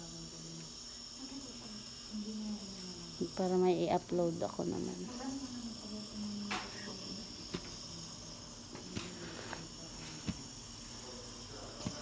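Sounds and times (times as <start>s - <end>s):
nebulizer mask hissing: 0.0s - 12.0s.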